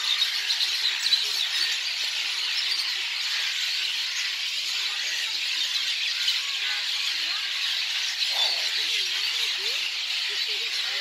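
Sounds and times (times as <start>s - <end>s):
flock of birds chattering: 0.0s - 11.0s.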